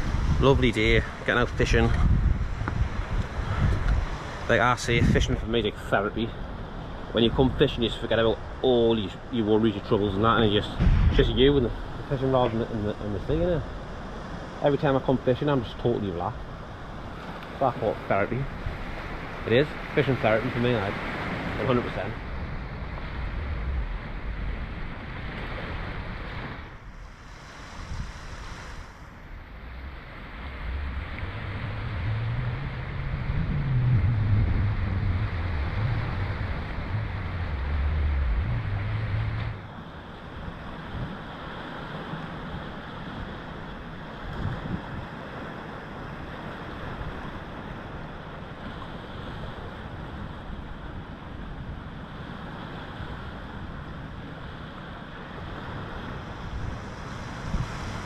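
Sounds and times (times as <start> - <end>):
surf washing on rocky shore: 0.0 - 58.0
wind buffeting microphone: 0.0 - 58.0.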